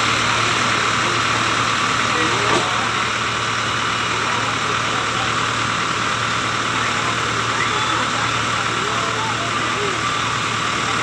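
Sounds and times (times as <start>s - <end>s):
fire truck engine idling: 0.0s - 11.0s.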